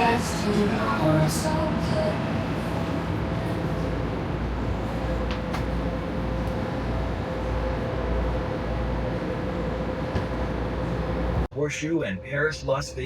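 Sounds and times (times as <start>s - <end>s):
monorail train low rumble: 0.0s - 13.0s.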